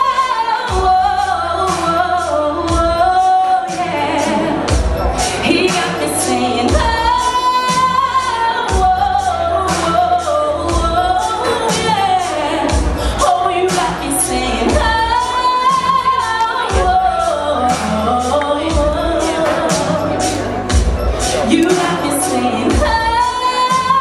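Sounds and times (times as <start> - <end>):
music with steady beat: 0.0 - 24.0
woman singing into a microphone: 0.0 - 24.0.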